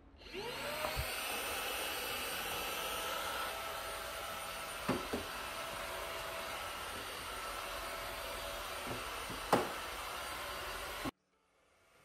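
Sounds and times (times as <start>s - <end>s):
stick vacuum motor whine: 0.1s - 11.1s.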